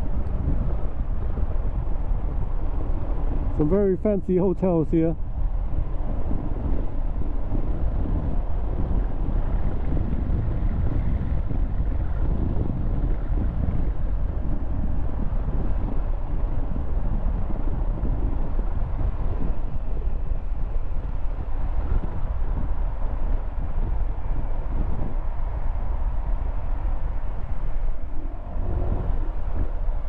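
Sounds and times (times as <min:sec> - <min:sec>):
road traffic: 0:00.0 - 0:30.0
wind buffeting microphone: 0:00.0 - 0:30.0.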